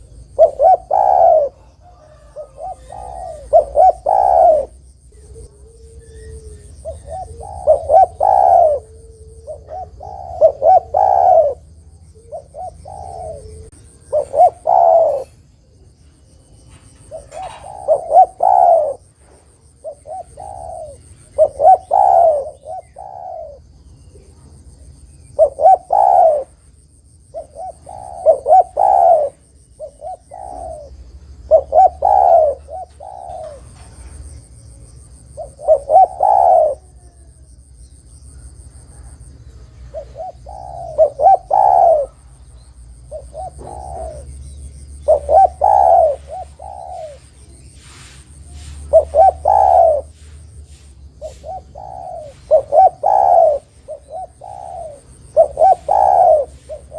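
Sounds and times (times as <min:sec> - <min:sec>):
dove cooing: 0:00.0 - 0:26.7, 0:27.3 - 0:37.6, 0:38.3 - 0:56.9.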